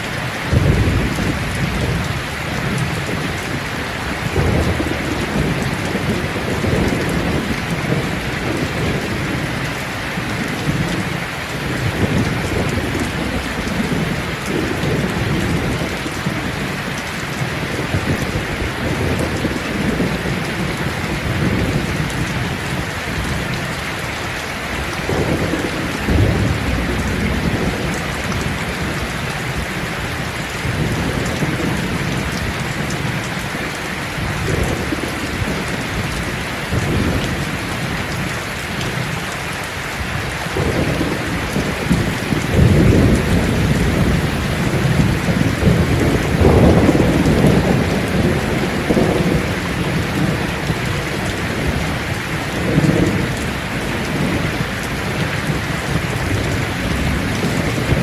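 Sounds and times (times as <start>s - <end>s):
rain falling on leaves: 0.0s - 58.0s
low rolling thunder: 0.5s - 23.8s, 24.7s - 39.2s, 40.1s - 58.0s.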